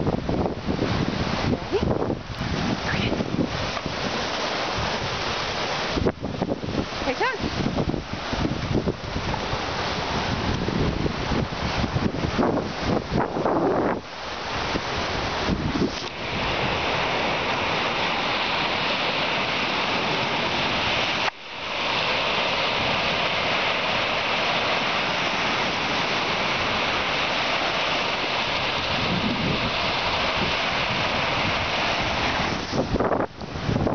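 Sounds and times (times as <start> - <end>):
wind on microphone: 0.0 - 33.9
small waves washing over rocks: 0.3 - 33.9.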